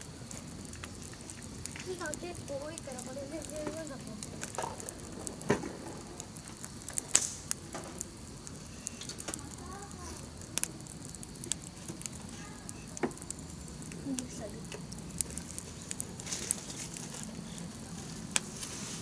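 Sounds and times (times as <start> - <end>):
campfire crackling: 0.0 - 19.0
fire pops: 0.0 - 19.0
steady hiss: 0.0 - 19.0.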